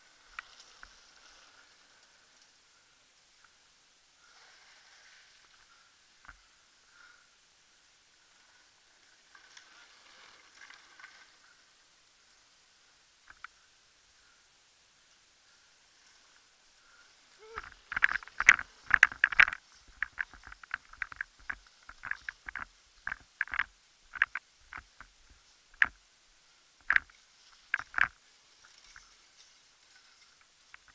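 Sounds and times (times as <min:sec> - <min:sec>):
bike rattling over bumpy trail: 0:00.0 - 0:14.4, 0:15.0 - 0:30.9.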